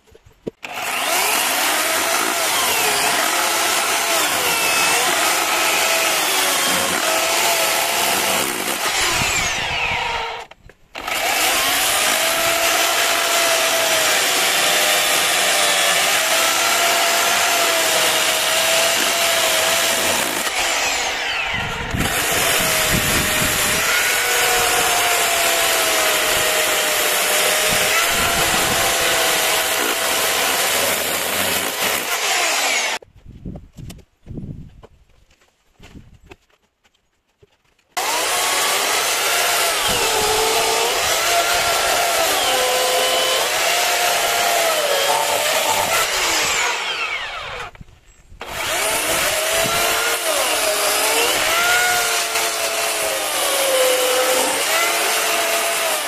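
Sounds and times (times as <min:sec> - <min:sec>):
small power tool motor running: 0:00.6 - 0:33.0, 0:38.0 - 0:47.8, 0:48.4 - 0:56.0.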